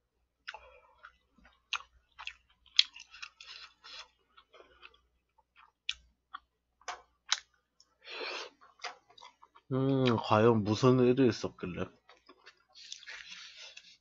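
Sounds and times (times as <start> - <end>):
chewing: 0.4 - 10.3, 12.0 - 14.0.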